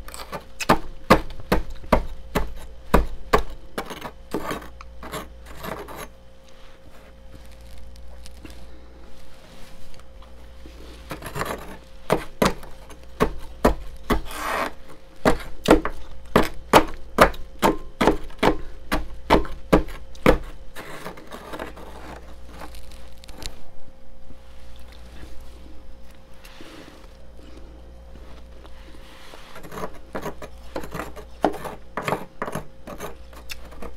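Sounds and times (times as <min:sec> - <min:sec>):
spoon scraping freezer frost: 0:00.0 - 0:23.7, 0:28.2 - 0:33.9
steady low hum: 0:00.0 - 0:33.9.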